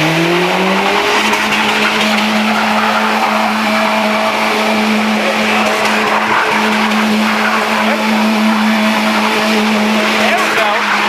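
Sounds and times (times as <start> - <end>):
car engine revving: 0.0 - 11.0
wheels spinning on snow: 0.0 - 11.0.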